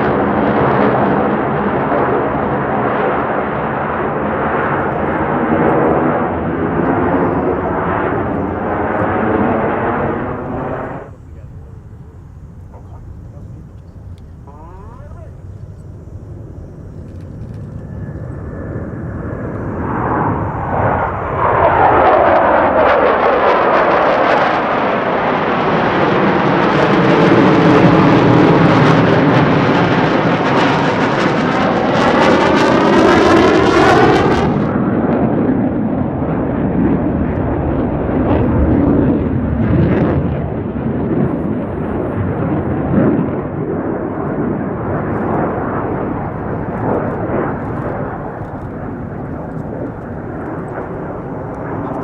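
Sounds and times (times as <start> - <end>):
jet engines flying past: 0.0 - 52.0.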